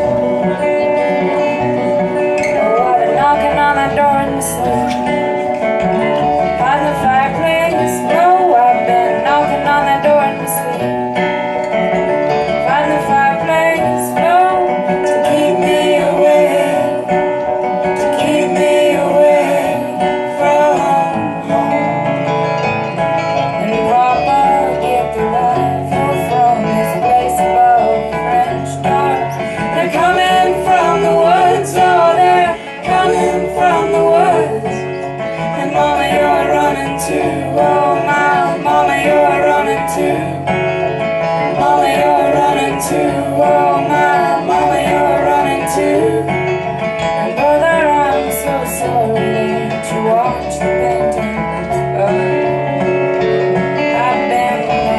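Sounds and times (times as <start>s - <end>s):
person singing: 0.0s - 22.6s, 23.5s - 54.9s
acoustic guitar: 0.0s - 54.9s.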